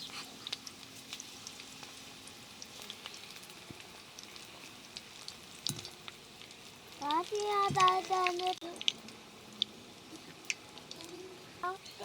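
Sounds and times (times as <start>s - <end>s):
fritters sizzling in hot oil: 0.0s - 12.0s
small crackles and pops: 0.0s - 12.0s.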